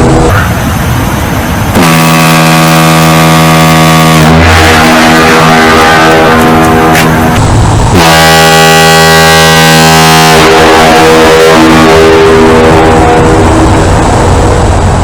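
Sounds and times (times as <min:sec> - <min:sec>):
distorted ship's horn blasting: 0:00.0 - 0:15.0.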